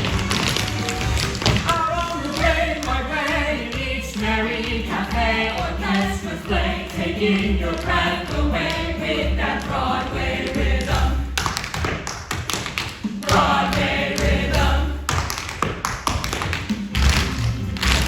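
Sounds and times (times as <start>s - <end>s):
backing music: 0.0s - 11.7s, 12.8s - 15.4s, 16.5s - 18.0s
tap shoes striking a stage: 0.0s - 18.0s.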